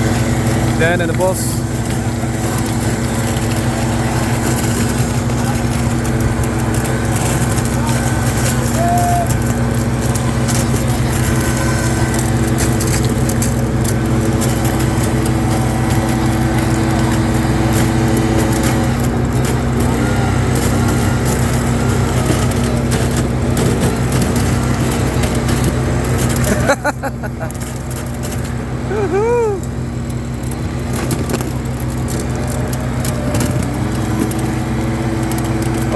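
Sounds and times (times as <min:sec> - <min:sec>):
leaf blower running: 0:00.0 - 0:35.9.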